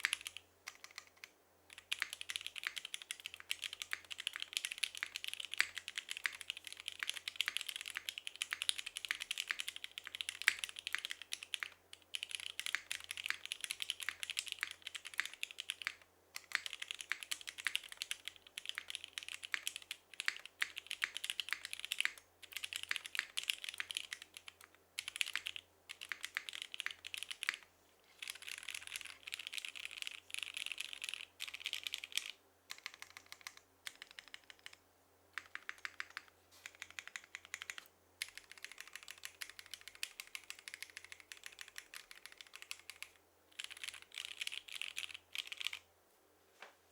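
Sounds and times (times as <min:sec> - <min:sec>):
mechanical keyboard typing: 0:00.0 - 0:27.6, 0:28.2 - 0:34.8, 0:35.4 - 0:45.8.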